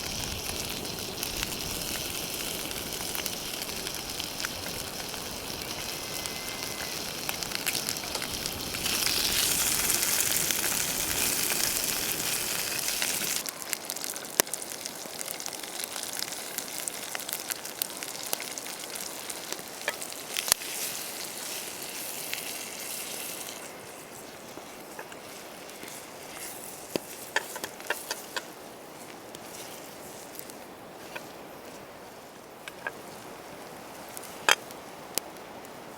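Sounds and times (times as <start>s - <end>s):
food sizzling in a pan: 0.0s - 34.6s
sharp crackles and pops: 0.0s - 35.8s.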